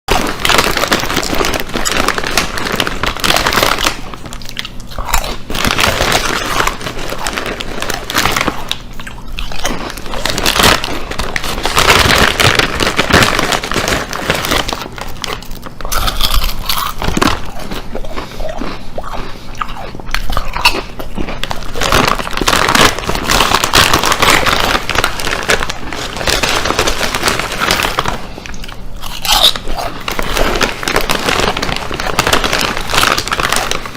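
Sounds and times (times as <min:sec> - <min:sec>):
person chewing crunchy chips: 0:00.1 - 0:33.9.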